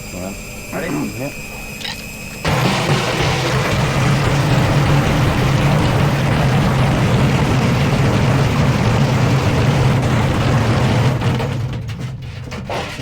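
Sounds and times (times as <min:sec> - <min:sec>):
unbalanced washing machine spinning: 0:00.0 - 0:13.0.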